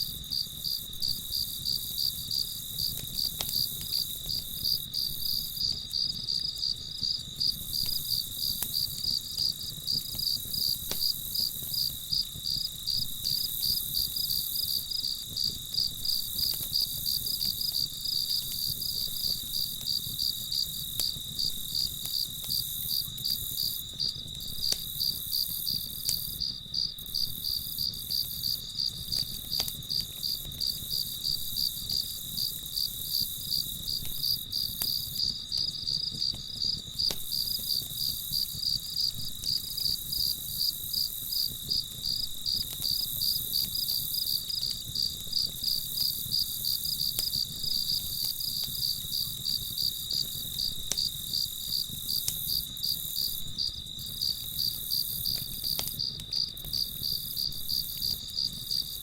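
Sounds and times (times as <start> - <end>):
campfire crackling pops: 0.0 - 59.0
crickets chirping: 0.0 - 59.0.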